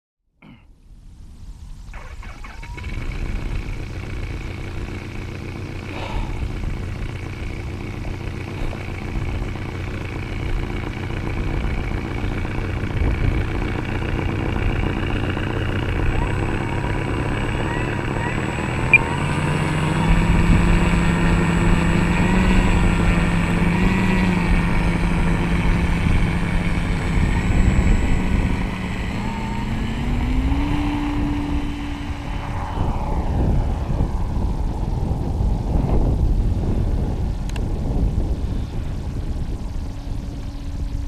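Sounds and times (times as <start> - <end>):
rushing noise of plane flying off: 0.4 - 41.0
model plane motor and propeller: 1.8 - 41.0.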